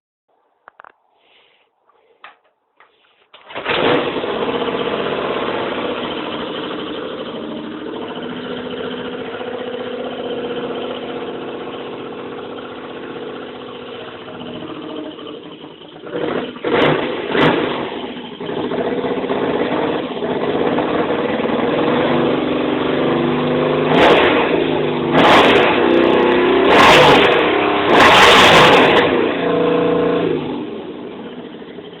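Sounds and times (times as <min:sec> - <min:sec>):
motorcycle engine idling and revving: 0:03.5 - 0:32.0.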